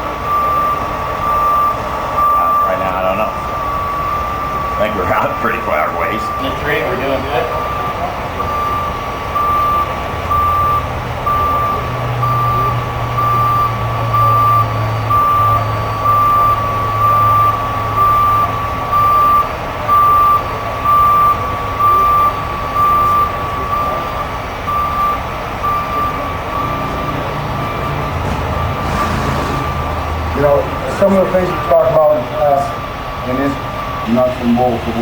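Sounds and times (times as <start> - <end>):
diesel engine running: 0.0 - 35.0
truck back-up alarm beeping: 0.0 - 35.0.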